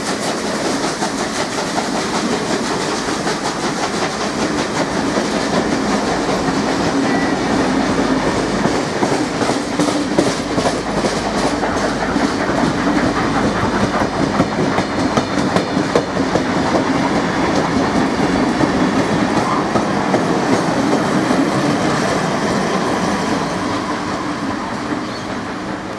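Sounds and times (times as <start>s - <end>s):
train wheels clattering over rail joints: 0.0s - 25.9s.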